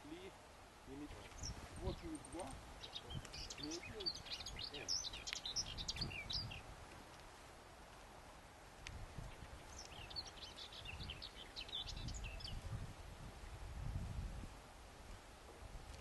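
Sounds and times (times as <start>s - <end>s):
songbird chirping: 0.0s - 8.2s, 8.8s - 13.6s
wind on microphone: 1.0s - 7.2s, 8.6s - 16.0s.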